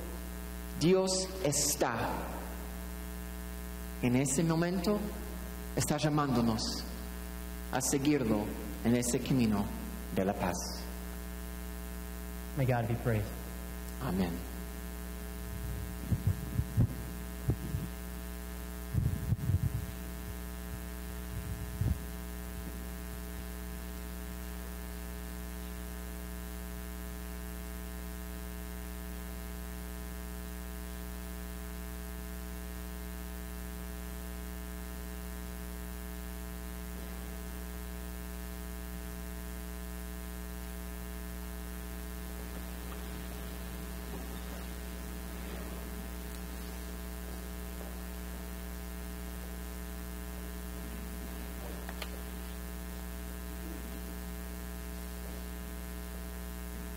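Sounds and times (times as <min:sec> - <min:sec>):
electrical mains hum: 0:00.0 - 0:56.9.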